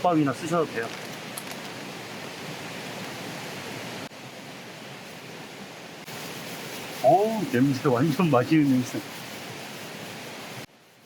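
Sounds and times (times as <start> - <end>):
stream water rushing: 0.0 - 10.8.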